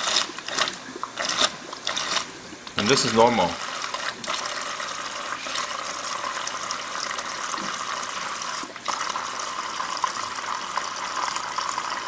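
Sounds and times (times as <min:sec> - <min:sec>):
water pouring into plastic tub: 0:00.0 - 0:12.0.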